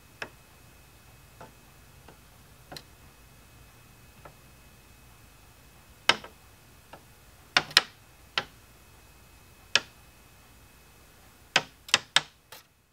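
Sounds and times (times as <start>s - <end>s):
faint high whine: 0.0s - 12.9s.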